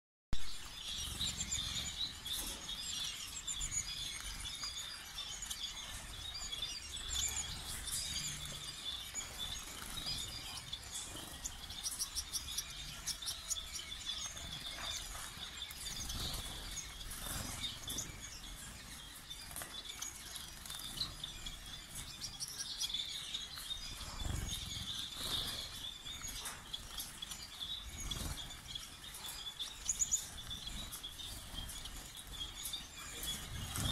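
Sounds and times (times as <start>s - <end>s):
finches chirping: 0.4s - 33.9s.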